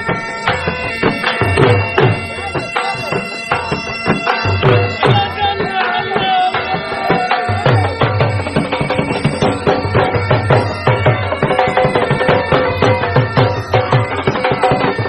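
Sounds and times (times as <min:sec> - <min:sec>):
drum beats: 0:00.0 - 0:15.0
held drone tones: 0:00.0 - 0:15.0
reedy wind melody: 0:00.0 - 0:15.0.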